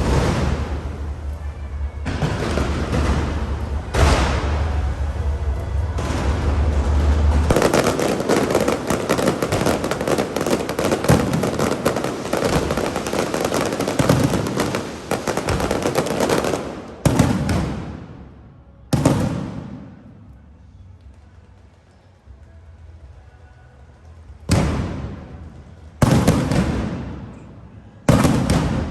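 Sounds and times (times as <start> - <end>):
loud firework bangs echoing: 0.0 - 20.4, 24.5 - 28.9
fireworks crackling: 0.0 - 22.8, 24.2 - 28.9.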